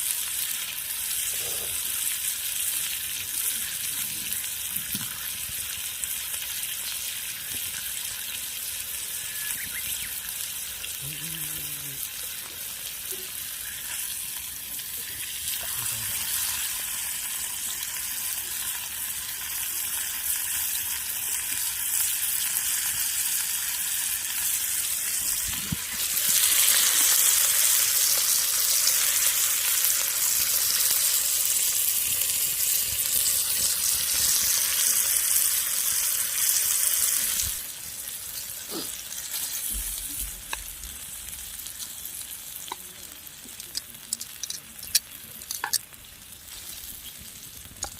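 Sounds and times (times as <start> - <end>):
meat sizzling on a griddle: 0.0 - 47.9.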